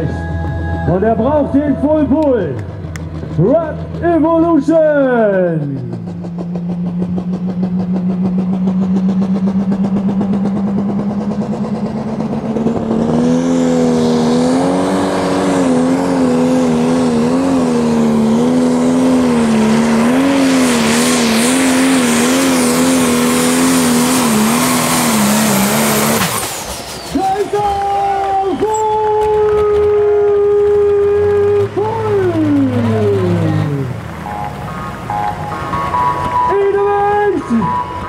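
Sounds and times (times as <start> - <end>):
tractor diesel engine revving: 0.0 - 38.0.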